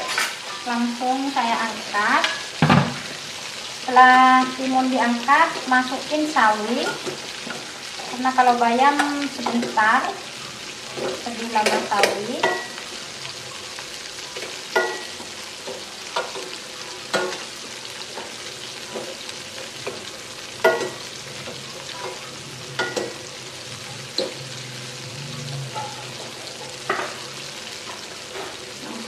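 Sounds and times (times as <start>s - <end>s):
water boiling in a pot: 0.0s - 29.0s.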